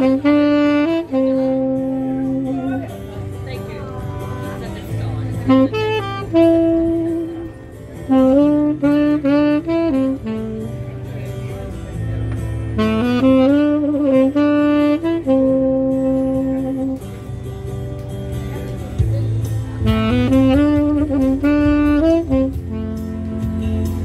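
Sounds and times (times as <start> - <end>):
saxophone slow melody: 0.0 - 18.4, 19.0 - 24.0.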